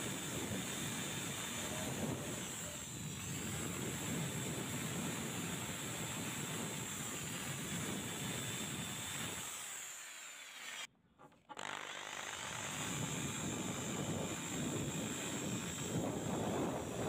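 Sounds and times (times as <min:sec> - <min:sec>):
rotary tool motor whine: 0:00.0 - 0:17.0.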